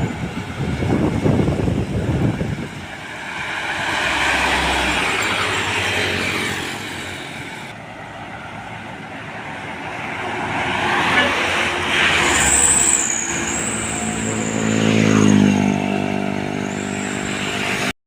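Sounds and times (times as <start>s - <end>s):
vehicles passing by: 0.0s - 18.0s.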